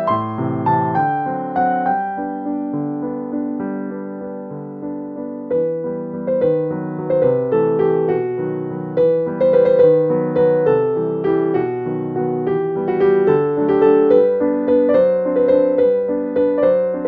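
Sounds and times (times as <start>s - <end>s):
light piano melody: 0.0s - 17.0s.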